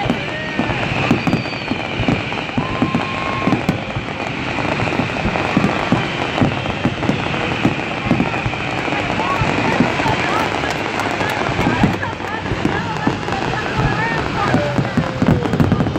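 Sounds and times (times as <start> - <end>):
fireworks bangs and crackling: 0.0 - 15.9.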